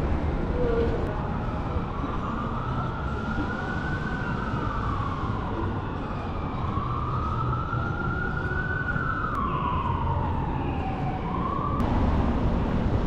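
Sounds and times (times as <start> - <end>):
low rumble of street traffic: 0.0 - 13.0
emergency vehicle siren wailing: 0.1 - 12.2.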